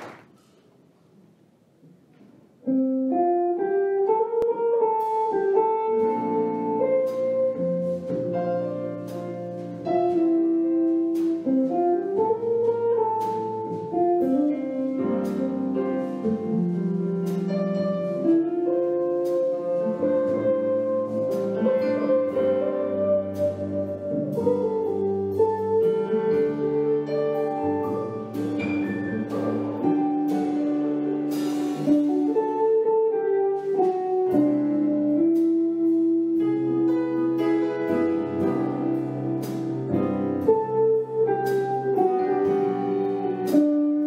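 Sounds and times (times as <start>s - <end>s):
electric guitar chords: 2.7s - 44.0s
upright bass: 4.3s - 44.0s.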